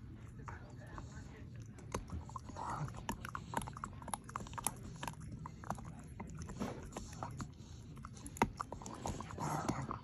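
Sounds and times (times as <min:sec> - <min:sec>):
dog chewing on a toy: 0:00.0 - 0:10.0.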